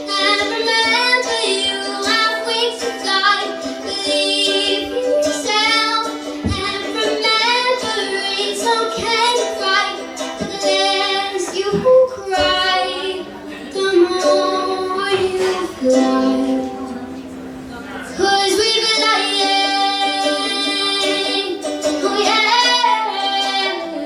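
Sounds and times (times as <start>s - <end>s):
woman singing: 0.0s - 17.2s, 18.1s - 24.0s.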